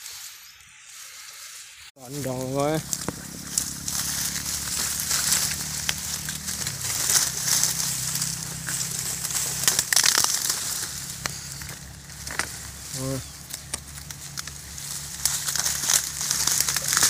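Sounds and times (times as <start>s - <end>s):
dry reeds crackling and snapping: 0.9s - 17.0s
low steady hum: 2.0s - 17.0s.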